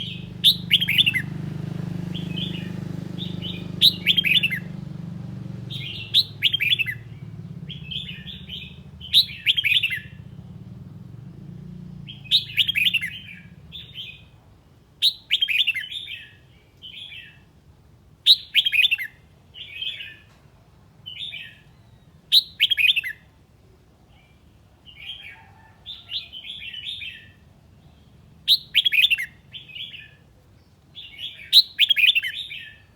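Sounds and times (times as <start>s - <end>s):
bulbul warbled song: 0.0s - 17.5s, 18.2s - 20.3s, 21.0s - 23.4s, 24.1s - 32.9s.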